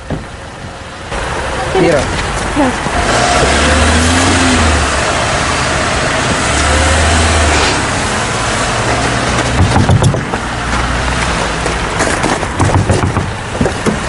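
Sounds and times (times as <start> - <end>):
road noise: 0.0 - 14.0
car engine revving: 1.1 - 14.0.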